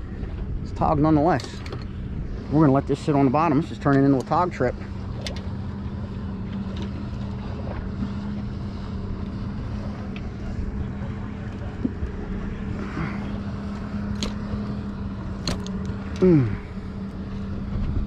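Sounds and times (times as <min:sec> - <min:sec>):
boat motor humming: 0:00.0 - 0:18.0
water noise: 0:00.0 - 0:18.0
wind: 0:00.0 - 0:18.0.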